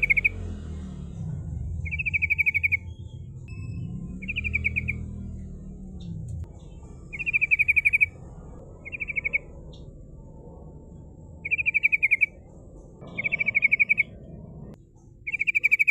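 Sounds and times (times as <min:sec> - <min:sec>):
bird singing rapid trills: 0:00.0 - 0:15.9
steady low rumble: 0:00.0 - 0:15.9.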